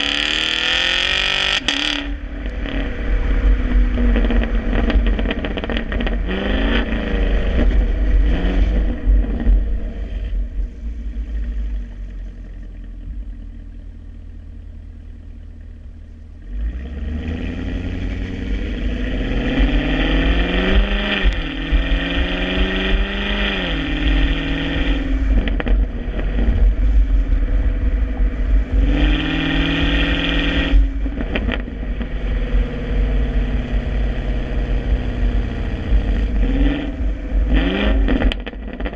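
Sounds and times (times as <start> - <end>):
car exhaust revving: 0.0 - 38.9.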